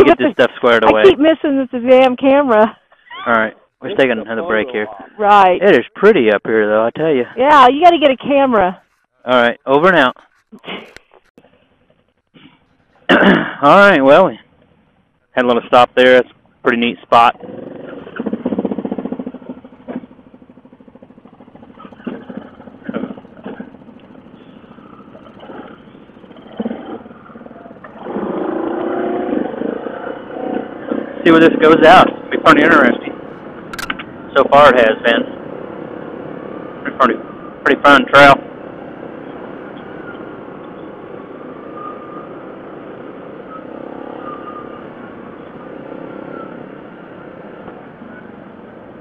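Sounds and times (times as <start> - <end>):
quad bike engines at low speed: 0.0 - 49.0.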